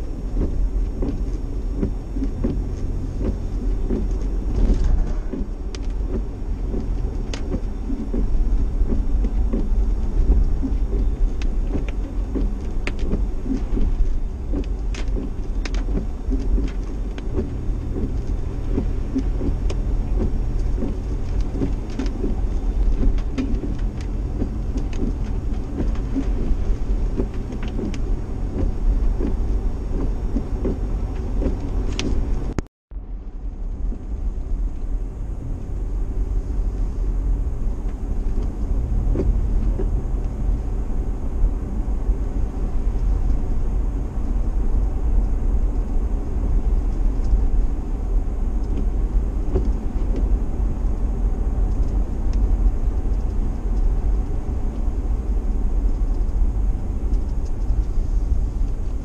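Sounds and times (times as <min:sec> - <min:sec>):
car driving on wet road: 0:00.0 - 0:59.0.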